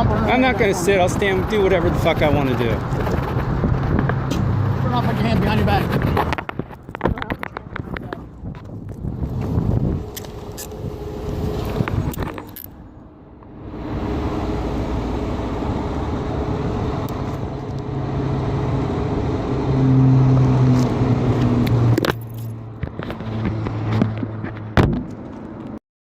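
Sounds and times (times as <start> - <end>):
loud vehicle engine hum: 0.0 - 25.8
road traffic passing: 0.0 - 25.8.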